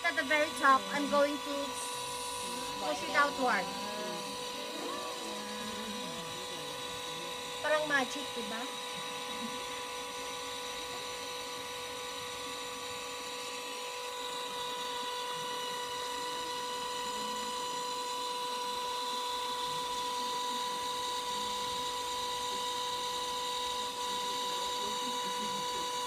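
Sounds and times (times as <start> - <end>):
potter's wheel motor whine: 0.0 - 26.0.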